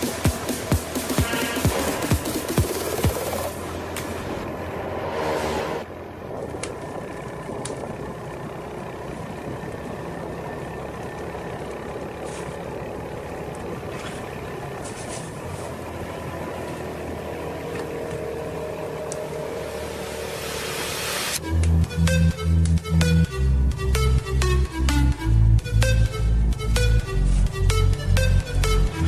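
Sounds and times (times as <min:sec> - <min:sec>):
motorcycle engine and road noise: 0:00.0 - 0:29.0.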